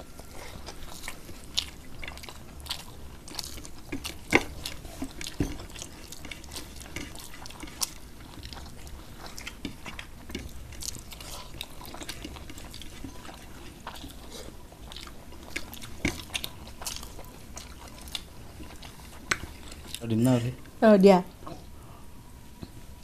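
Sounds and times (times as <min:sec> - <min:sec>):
chewing and mouth sounds: 0:00.0 - 0:20.7.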